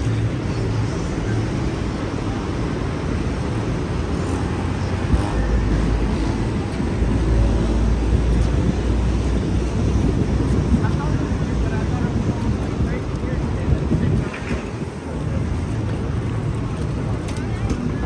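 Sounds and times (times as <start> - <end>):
low traffic rumble: 0.0 - 18.0
passing vehicles: 0.0 - 18.0.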